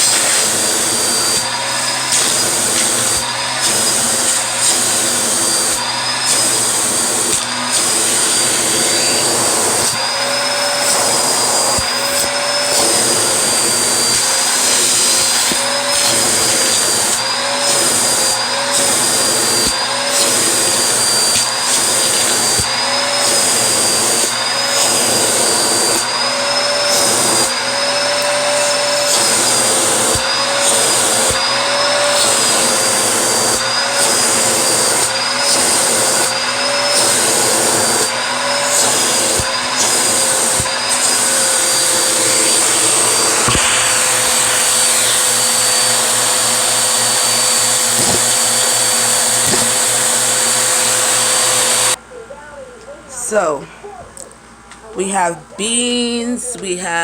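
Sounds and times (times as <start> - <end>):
vacuum cleaner running: 0.0 - 52.2, 53.2 - 53.6, 54.2 - 57.0.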